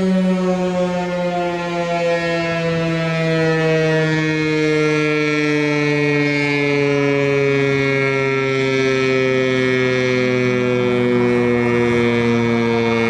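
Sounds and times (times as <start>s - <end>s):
rotating warning siren: 0.0s - 13.0s.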